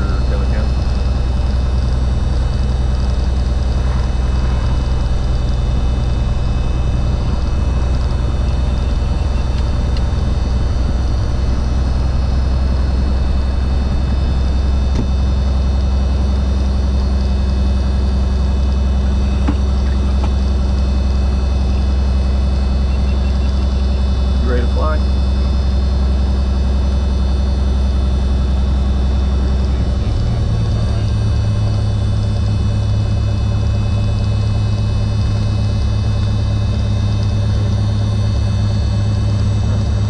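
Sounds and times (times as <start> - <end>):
propeller plane engine droning: 0.0 - 40.0.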